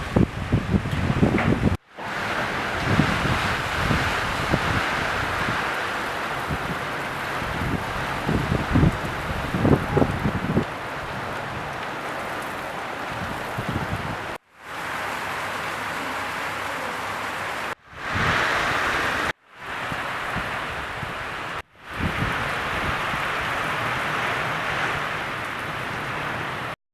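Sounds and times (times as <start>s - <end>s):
rain and wind: 0.0s - 26.8s.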